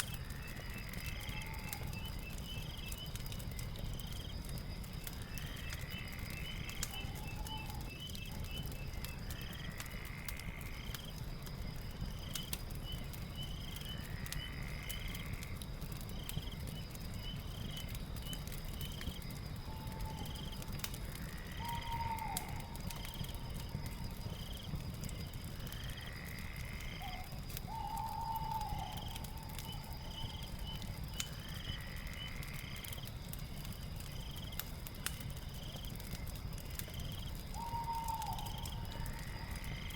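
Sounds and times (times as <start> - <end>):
fire crackling and popping: 0.0 - 39.9
high insect trill: 0.0 - 39.9.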